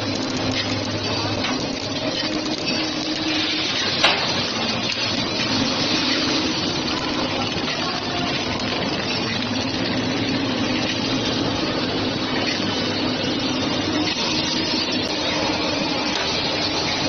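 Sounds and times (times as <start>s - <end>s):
wrapping machine humming: 0.0s - 17.0s.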